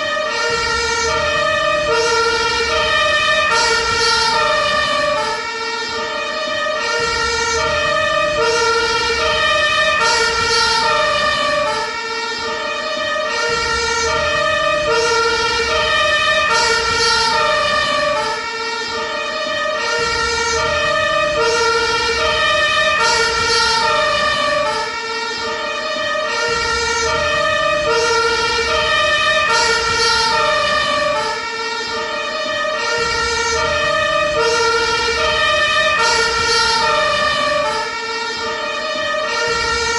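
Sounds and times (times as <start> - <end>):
ambulance two-tone siren: 0.0 - 39.9.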